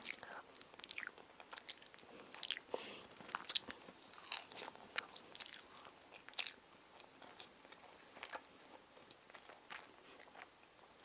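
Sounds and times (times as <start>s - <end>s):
child chewing: 0.0s - 11.0s.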